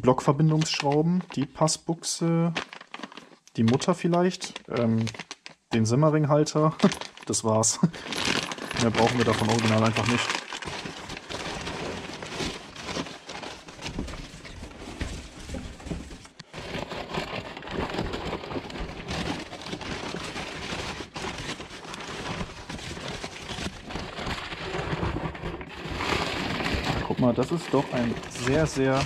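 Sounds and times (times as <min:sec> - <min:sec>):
packing paper rustling: 0:00.0 - 0:29.0.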